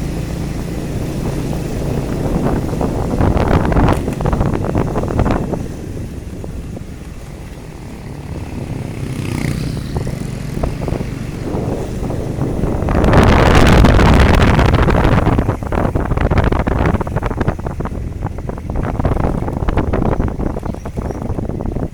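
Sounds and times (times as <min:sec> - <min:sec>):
vehicle engines rumbling: 0:00.0 - 0:21.9
wind buffeting microphone: 0:00.0 - 0:21.9.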